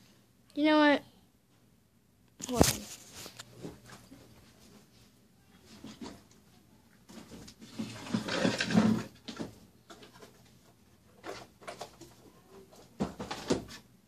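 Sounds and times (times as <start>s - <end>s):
close rustling and handling: 2.4s - 13.9s.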